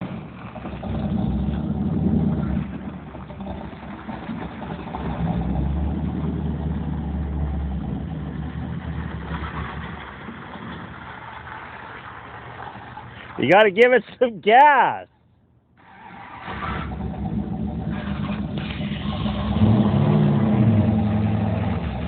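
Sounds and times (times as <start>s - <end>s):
pickup truck engine revving: 0.0s - 12.2s, 15.8s - 22.0s.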